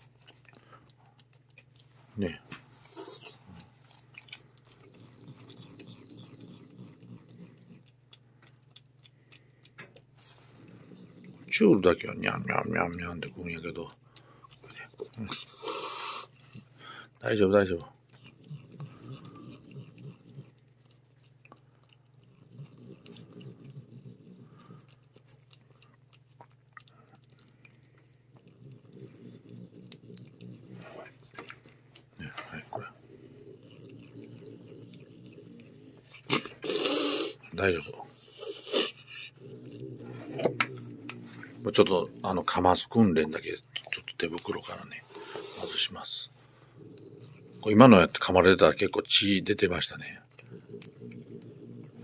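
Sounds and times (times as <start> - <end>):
cat licking wet paste: 0.0 - 52.0
low steady hum: 0.0 - 52.0.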